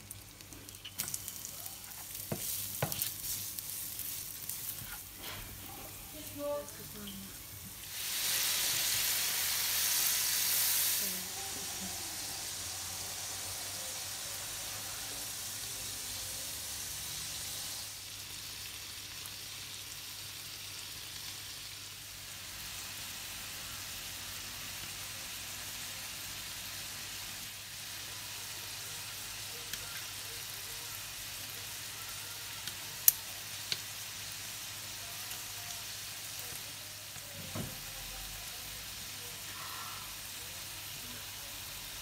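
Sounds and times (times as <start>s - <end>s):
shrimp sizzling in oil: 0.0s - 42.0s.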